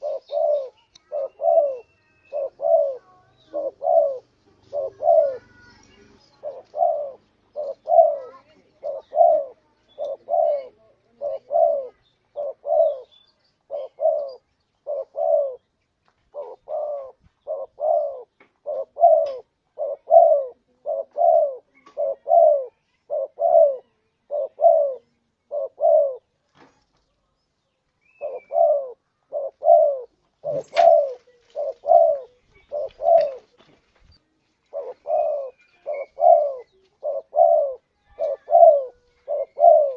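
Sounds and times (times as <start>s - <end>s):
dove cooing: 0.0s - 15.7s, 16.3s - 26.3s, 28.1s - 33.6s, 34.6s - 39.9s.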